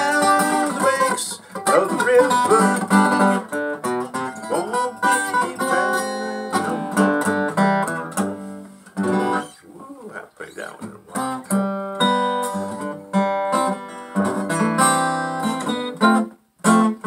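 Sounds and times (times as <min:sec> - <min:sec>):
acoustic guitar playing blues: 0:00.0 - 0:17.0.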